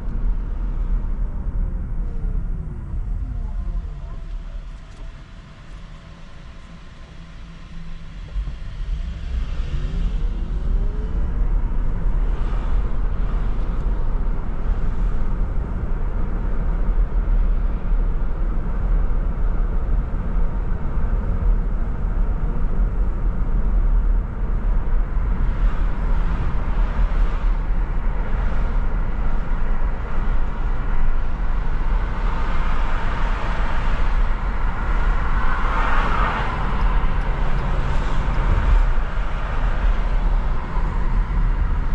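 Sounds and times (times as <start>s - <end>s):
car engine rumble: 0.0s - 41.9s.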